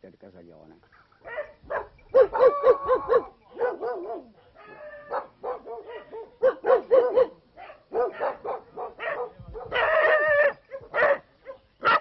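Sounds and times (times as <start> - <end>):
dogs yapping and barking: 1.0 - 12.0.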